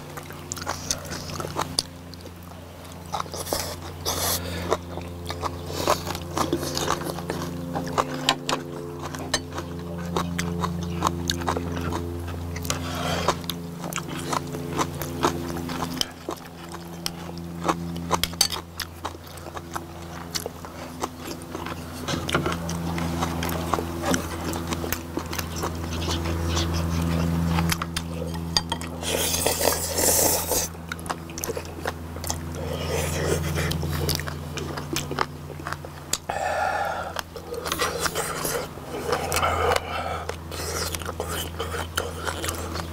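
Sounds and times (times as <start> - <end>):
slurping: 0.0 - 18.5, 19.5 - 42.9
chewing and smacking: 0.0 - 42.9
low steady hum: 0.0 - 42.9.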